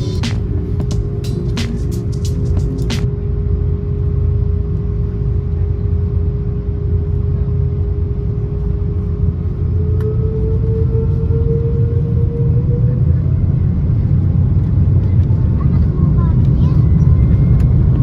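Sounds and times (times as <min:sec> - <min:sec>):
held engine tone: 0:00.0 - 0:14.8
airplane cabin rumble: 0:00.0 - 0:18.0.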